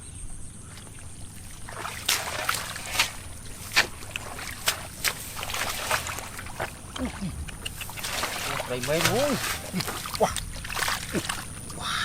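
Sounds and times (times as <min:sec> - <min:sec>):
splashing in muddy water: 0:00.7 - 0:12.0.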